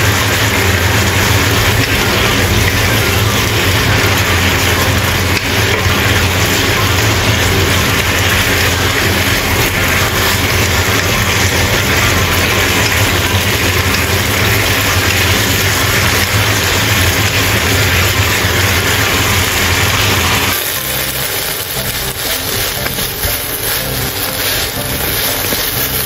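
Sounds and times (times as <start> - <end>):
stir-frying sizzle in a wok: 0.0 - 26.0.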